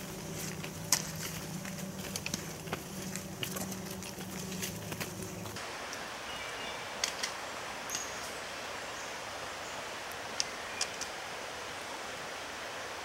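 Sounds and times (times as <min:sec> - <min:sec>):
wind or rain in leaves: 0:00.0 - 0:13.0.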